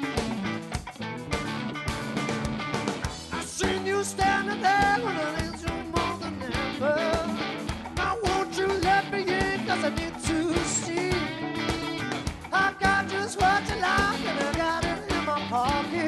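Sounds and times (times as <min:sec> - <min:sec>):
bass guitar: 0:00.0 - 0:16.0
drums: 0:00.0 - 0:16.0
electric guitars: 0:00.0 - 0:16.0
male lead vocal: 0:03.1 - 0:16.0.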